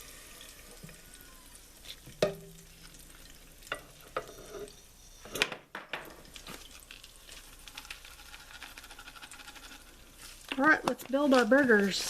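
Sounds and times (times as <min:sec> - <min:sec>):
food sizzling and crackling: 0:00.0 - 0:05.4, 0:06.1 - 0:12.0.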